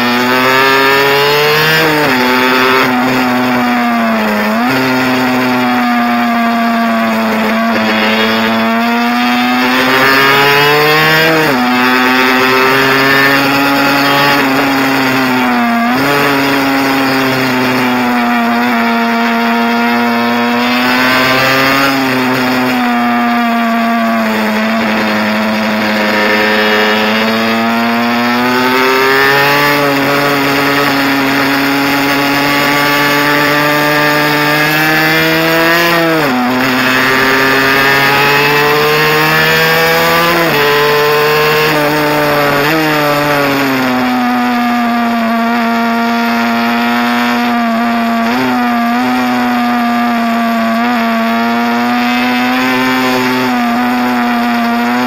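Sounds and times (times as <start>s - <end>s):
mini bike engine revving: 0.0s - 55.0s.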